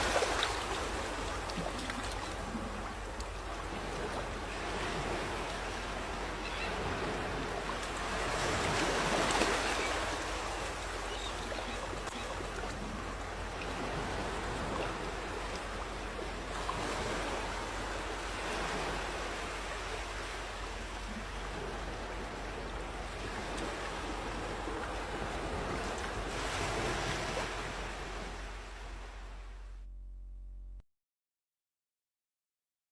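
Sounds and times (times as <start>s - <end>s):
sea waves breaking on beach: 0.0s - 29.5s.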